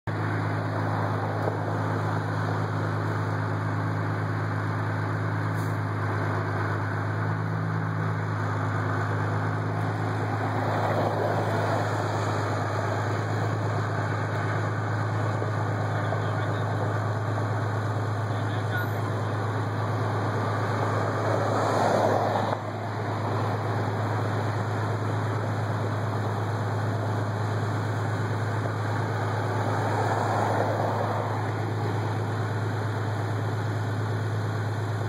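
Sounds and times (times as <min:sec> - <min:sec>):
truck engine humming: 0:00.0 - 0:35.0.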